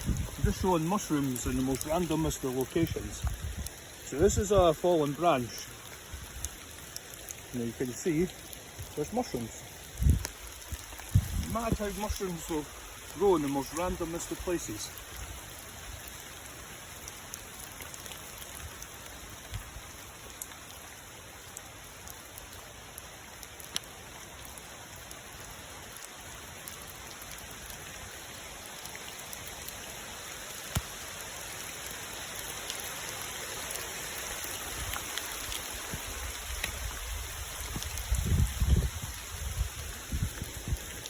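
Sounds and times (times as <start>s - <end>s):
rain hissing: 0.0s - 41.0s.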